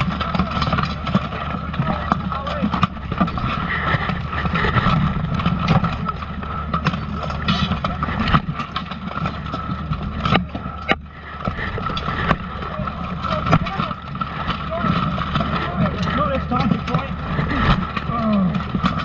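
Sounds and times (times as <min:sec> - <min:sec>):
muffled rumble of bodies rubbing: 0:00.0 - 0:19.0.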